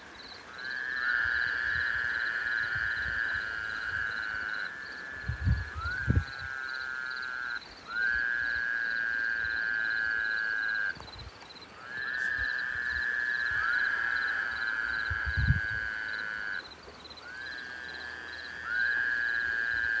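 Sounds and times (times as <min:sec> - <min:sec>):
frogs trilling: 0:00.1 - 0:20.0.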